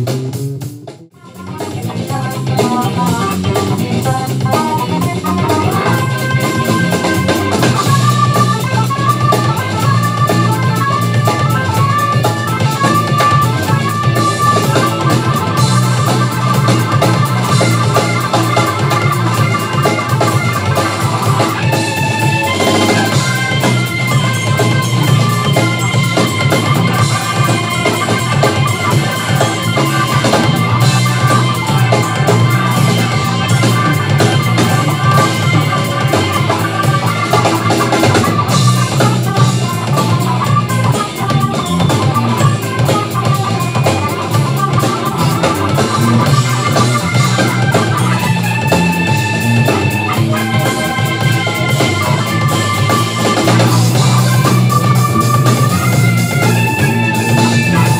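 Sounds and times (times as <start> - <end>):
drum kit: 0.0 - 57.9
electric bass: 0.0 - 57.9
electric guitar: 0.0 - 57.9
keyboard: 0.0 - 57.9.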